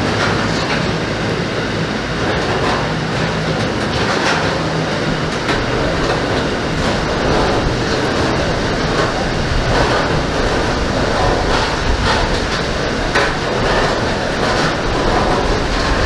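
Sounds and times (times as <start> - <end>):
freight train rumbling past: 0.0 - 16.0
wheels clacking over rail joints: 0.0 - 16.0.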